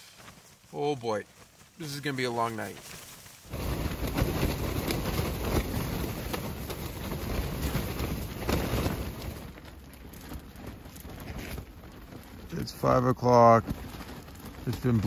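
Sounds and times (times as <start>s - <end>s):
storm wind buffeting a tent: 0.0s - 15.0s
tent fabric flapping: 0.0s - 15.0s.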